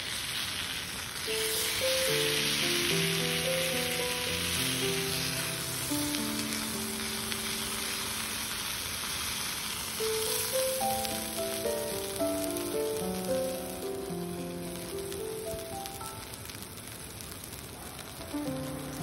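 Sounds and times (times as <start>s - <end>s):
food sizzling in a skillet: 0.0s - 19.0s
gentle background music: 1.3s - 9.2s, 9.9s - 16.6s, 18.0s - 19.0s.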